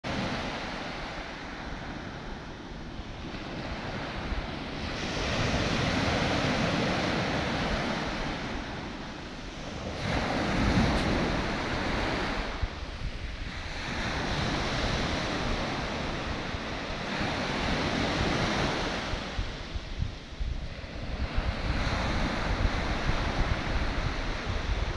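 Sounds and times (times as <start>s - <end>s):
waves breaking on sandy beach: 0.0s - 24.9s.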